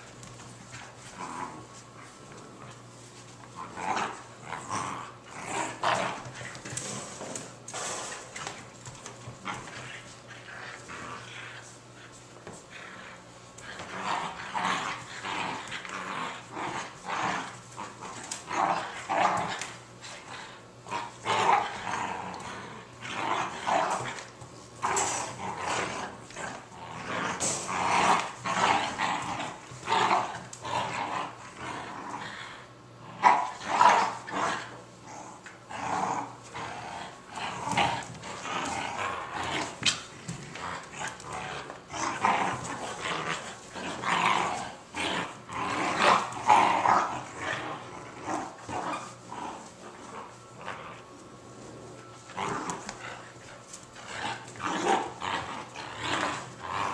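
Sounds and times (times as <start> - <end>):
puppies play-growling: 0.0 - 56.9.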